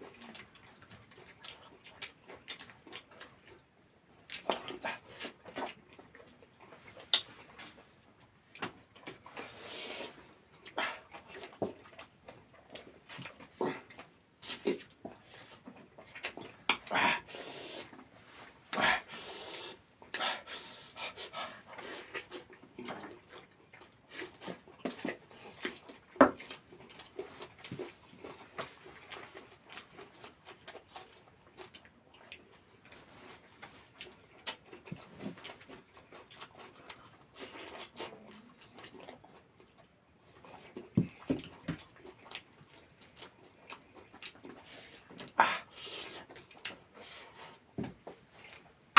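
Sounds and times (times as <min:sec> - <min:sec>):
wet chewing and lip smacking: 0:00.0 - 0:17.0, 0:17.6 - 0:48.9.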